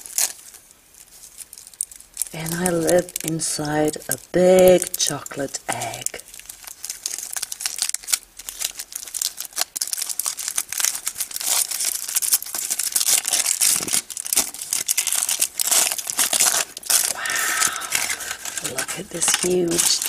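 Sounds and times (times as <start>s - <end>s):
foil wrapper crinkling and tearing: 0.0s - 20.0s.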